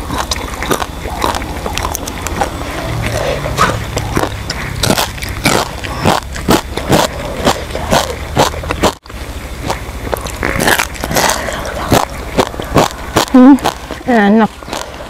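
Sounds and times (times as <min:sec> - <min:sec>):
chewing crunchy bones: 0:00.0 - 0:15.0.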